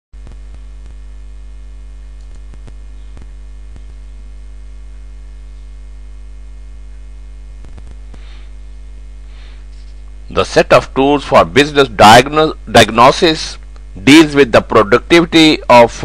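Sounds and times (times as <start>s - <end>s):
electrical mains hum: 0.2s - 16.0s.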